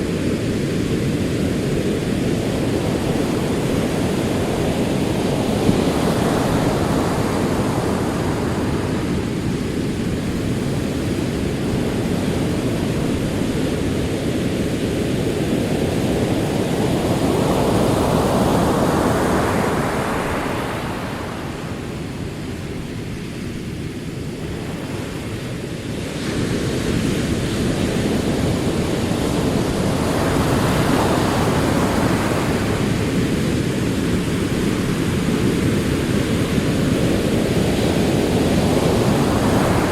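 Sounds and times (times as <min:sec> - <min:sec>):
ocean waves washing up: 0:00.0 - 0:39.9.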